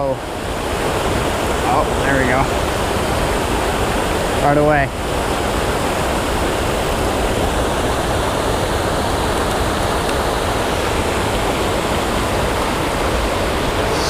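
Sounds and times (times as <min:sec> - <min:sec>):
water pouring over a waterfall: 0:00.0 - 0:14.0.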